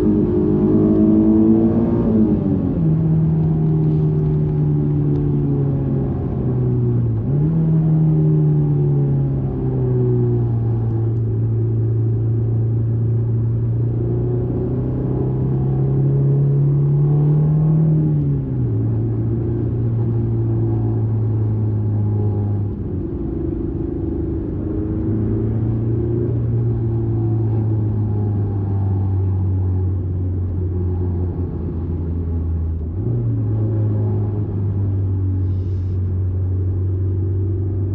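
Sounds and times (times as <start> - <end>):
car engine under load: 0.0 - 37.9.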